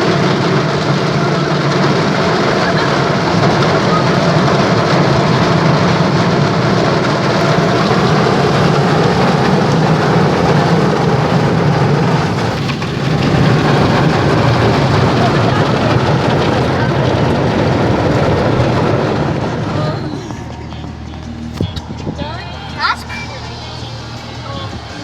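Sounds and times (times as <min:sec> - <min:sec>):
water spray hitting car: 0:00.0 - 0:25.0.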